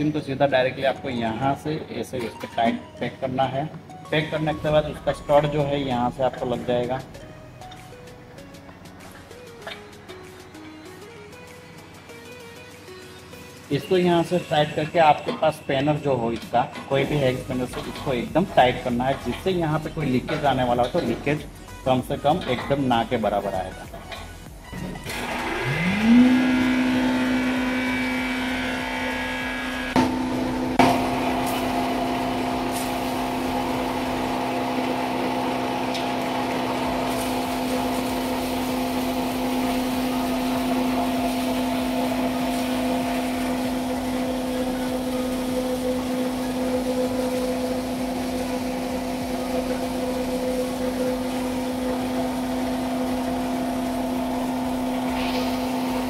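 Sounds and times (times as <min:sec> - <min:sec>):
hammer mill whining: 0:04.2 - 0:11.6, 0:13.5 - 0:56.0.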